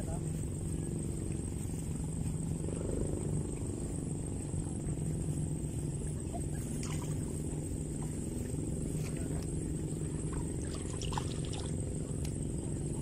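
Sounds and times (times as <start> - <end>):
low humming rumble: 0.0 - 13.0.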